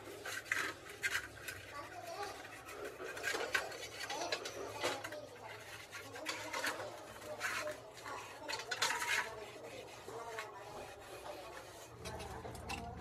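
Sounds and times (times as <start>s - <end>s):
brush scrubbing metal part: 0.0s - 13.0s.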